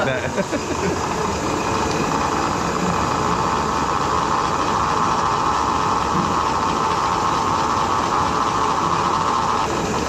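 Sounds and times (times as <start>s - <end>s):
milling machine whirring: 0.0s - 10.0s.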